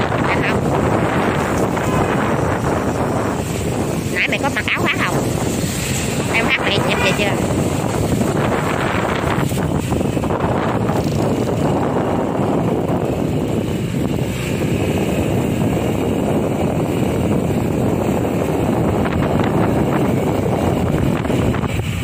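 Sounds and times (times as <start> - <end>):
motorbike running: 0.0 - 22.0
wind buffeting microphone: 0.0 - 22.0.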